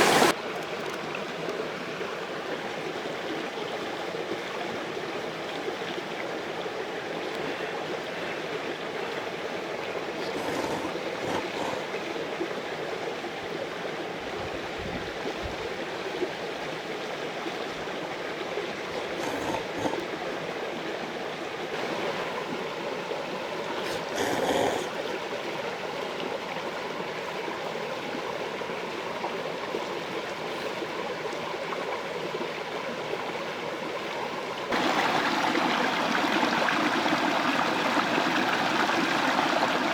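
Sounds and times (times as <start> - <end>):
mountain stream rushing: 0.0 - 14.3, 15.2 - 39.9.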